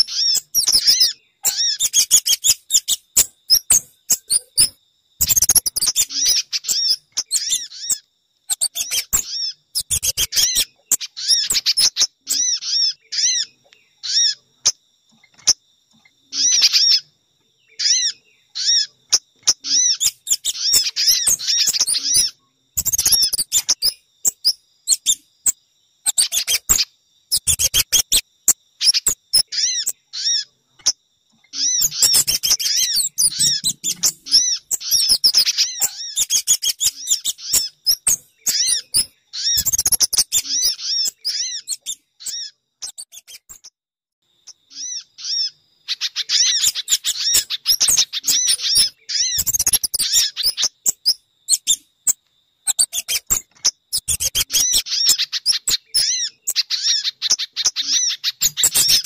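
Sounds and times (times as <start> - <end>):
small songbird chirps: 0.0 - 59.0.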